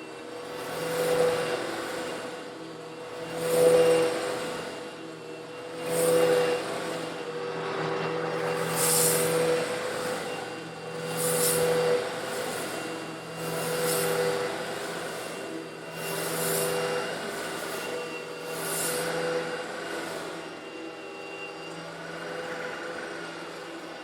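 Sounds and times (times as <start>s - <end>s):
vacuum cleaner motor running: 0.0s - 24.0s.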